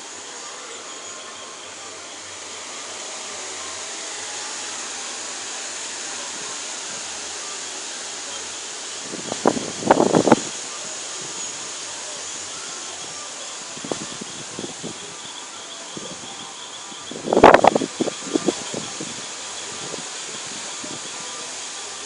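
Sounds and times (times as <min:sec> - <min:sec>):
heavy rain hissing: 0:00.0 - 0:22.0
loud burst of sound: 0:00.0 - 0:22.0.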